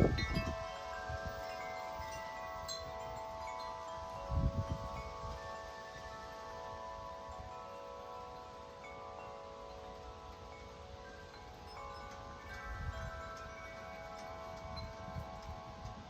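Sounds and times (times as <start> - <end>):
tubular wind chime ringing: 0.0 - 16.0
wind rumbling on microphone: 0.0 - 16.0.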